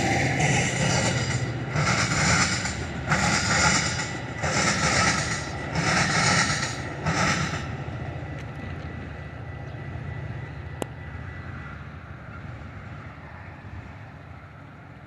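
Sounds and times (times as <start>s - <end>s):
low train rumble: 0.0s - 15.0s
train wheel noise: 0.0s - 15.0s.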